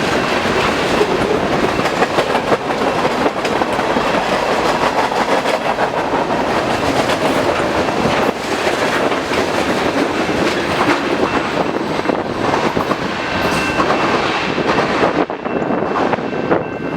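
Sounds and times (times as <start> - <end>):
wheels clicking over rail joints: 0.0 - 15.2
freight train rumbling and rattling: 0.0 - 16.9.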